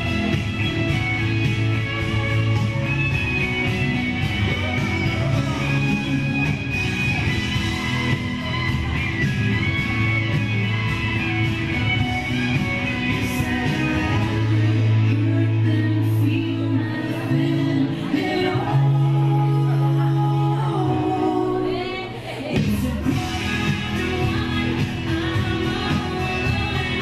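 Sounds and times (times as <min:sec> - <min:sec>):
guitar dance music: 0:00.0 - 0:27.0
person singing: 0:00.0 - 0:27.0.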